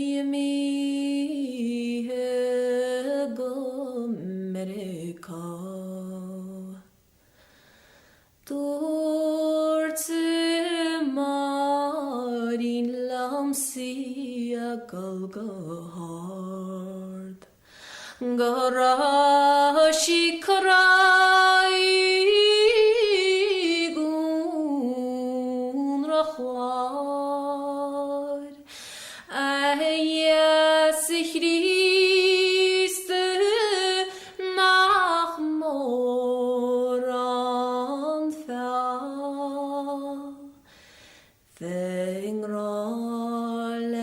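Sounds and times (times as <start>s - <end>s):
woman singing unaccompanied: 0.0s - 6.9s, 8.4s - 17.5s, 18.2s - 40.6s, 41.6s - 44.0s.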